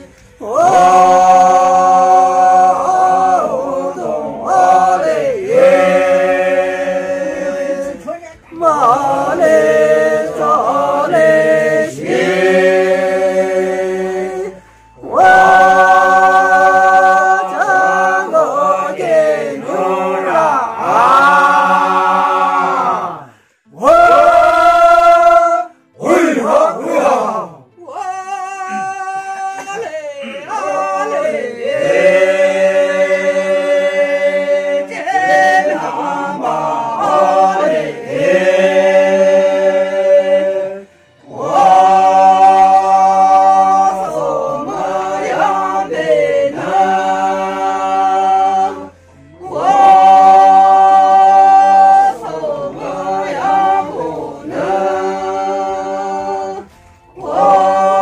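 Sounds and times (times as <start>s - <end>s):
unaccompanied group singing: 0.0s - 58.0s.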